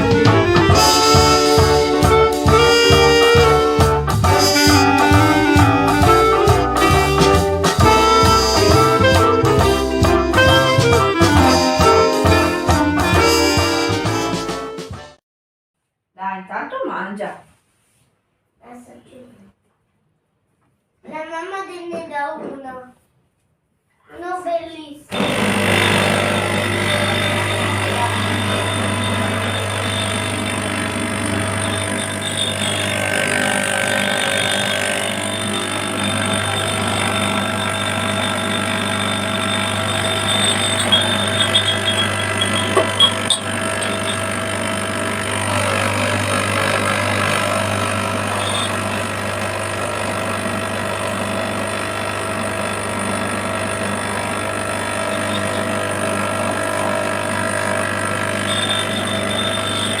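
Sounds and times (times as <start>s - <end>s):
espresso machine humming: 0.0s - 13.8s, 25.1s - 60.0s.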